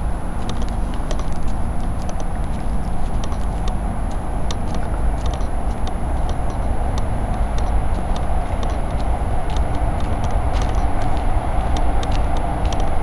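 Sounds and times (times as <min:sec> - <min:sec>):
distant traffic and trains rumble: 0:00.0 - 0:13.0
light clicks: 0:00.4 - 0:13.0.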